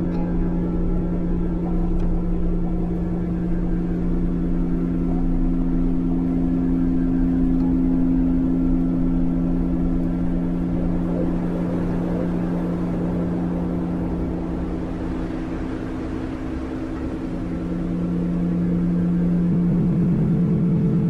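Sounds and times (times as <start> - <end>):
ambient drone of low tones: 0.0 - 21.0
rumbling noise bed: 0.0 - 21.0.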